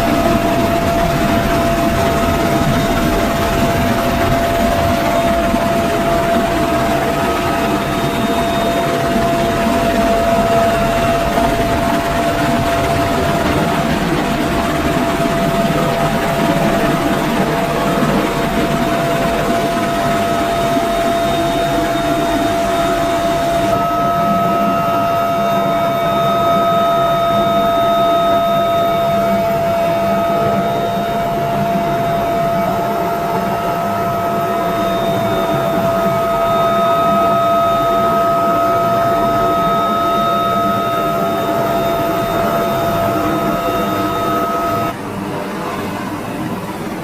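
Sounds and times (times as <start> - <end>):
helicopter turbine rush: 0.0 - 47.0
high turbine whine: 0.0 - 47.0.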